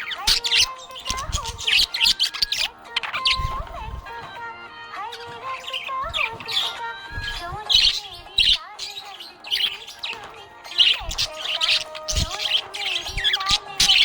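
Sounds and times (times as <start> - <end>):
budgerigar chirping: 0.0 - 4.3, 5.1 - 14.0
background music: 0.0 - 14.0.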